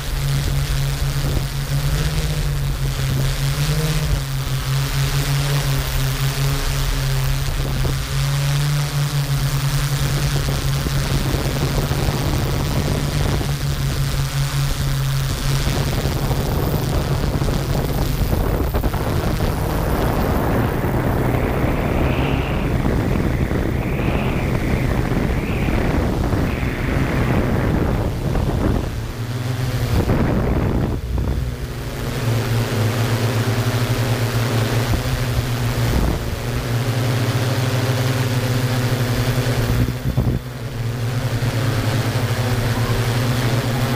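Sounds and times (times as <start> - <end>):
drone propellers humming: 0.0 - 43.9
wind noise: 0.0 - 43.9.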